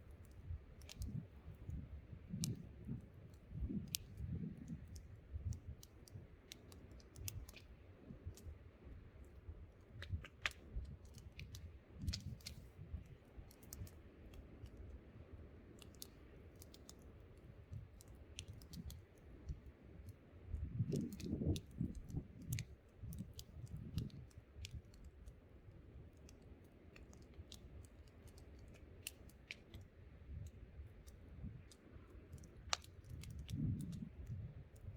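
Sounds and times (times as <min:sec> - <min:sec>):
campfire crackling and popping: 0:00.0 - 0:15.0, 0:15.7 - 0:34.9.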